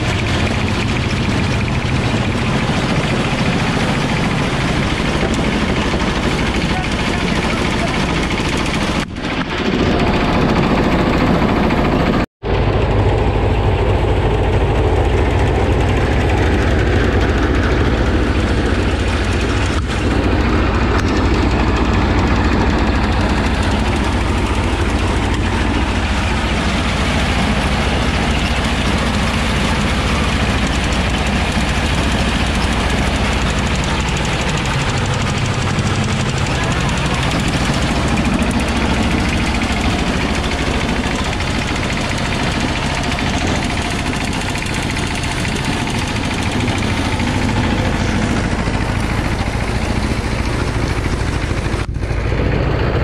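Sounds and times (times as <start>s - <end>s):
drum thresher: 0.0s - 12.7s, 15.0s - 52.4s
small diesel engine running: 0.0s - 53.0s.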